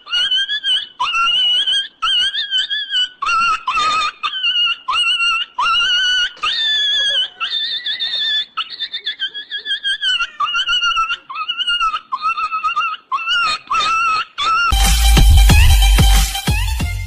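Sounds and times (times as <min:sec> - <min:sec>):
animal high-pitched cries: 0:00.0 - 0:14.8.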